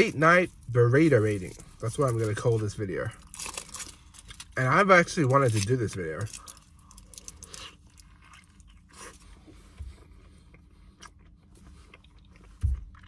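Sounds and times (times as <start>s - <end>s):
faint low hum: 0.0s - 13.0s
chewing with soft crunches: 0.5s - 13.0s.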